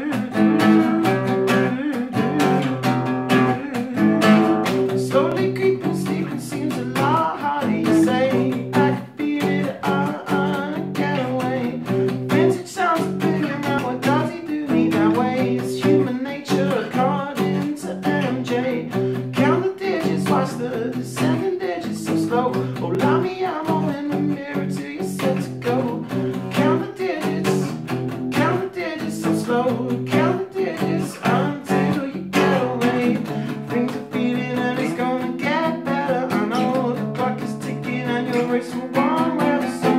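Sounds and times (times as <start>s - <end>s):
acoustic guitar strumming: 0.0s - 39.9s
man singing: 0.0s - 39.9s.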